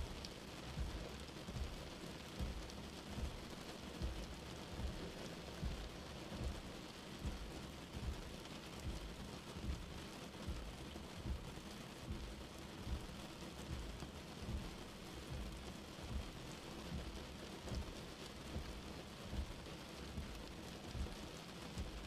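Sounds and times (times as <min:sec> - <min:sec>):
rain falling on glass: 0:00.0 - 0:22.0
soft low thumps: 0:00.0 - 0:22.0.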